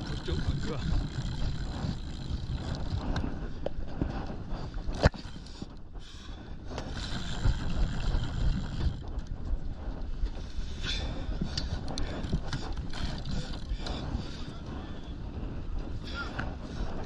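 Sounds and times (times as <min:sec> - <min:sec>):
boat engine rumble: 0:00.0 - 0:17.0
wind on microphone: 0:00.0 - 0:17.0.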